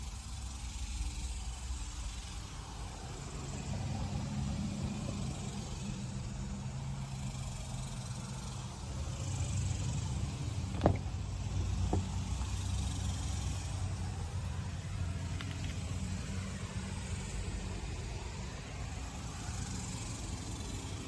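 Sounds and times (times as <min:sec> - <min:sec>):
truck engine idling: 0:02.8 - 0:21.0.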